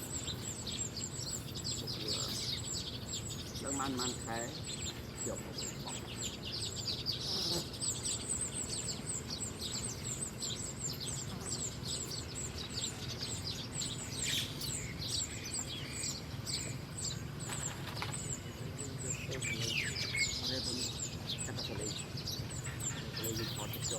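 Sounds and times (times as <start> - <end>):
low background hum: 0.0 - 23.9
small birds chirping: 0.0 - 23.9.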